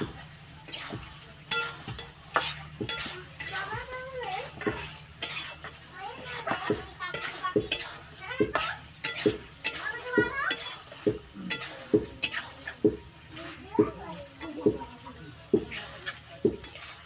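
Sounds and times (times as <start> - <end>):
metal ladle scraping a pan: 0.0 - 17.0.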